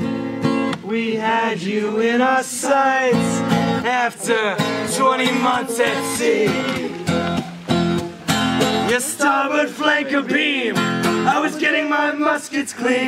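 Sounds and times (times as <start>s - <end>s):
acoustic guitar strumming: 0.0s - 13.0s
men singing: 0.8s - 7.6s, 8.6s - 13.0s.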